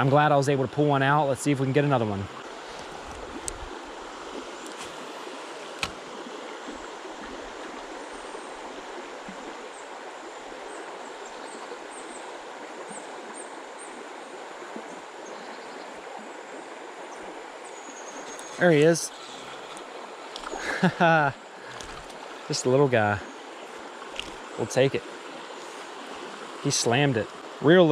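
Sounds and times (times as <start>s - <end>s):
creek water running: 0.0s - 27.9s.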